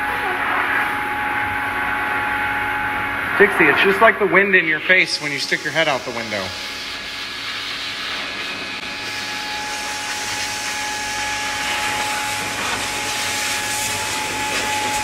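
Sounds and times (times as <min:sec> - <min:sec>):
blow dryer blasting air: 0:00.0 - 0:15.0.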